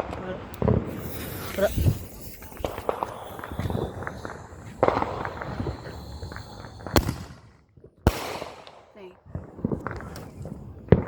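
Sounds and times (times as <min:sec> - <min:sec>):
fireworks popping and crackling: 0:00.0 - 0:11.0
loud firework crack: 0:00.0 - 0:11.0.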